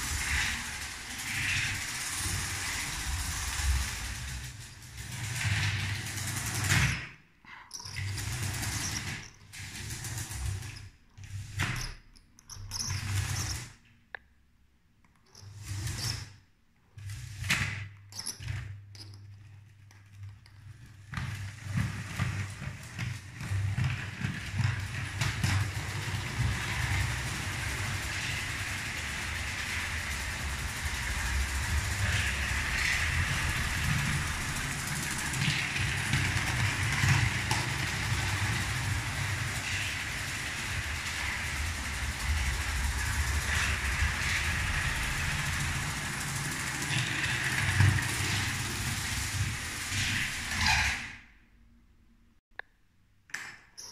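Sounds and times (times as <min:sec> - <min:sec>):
toy train motor hum and rattle: 0:00.0 - 0:13.8, 0:15.2 - 0:16.4, 0:17.0 - 0:51.2.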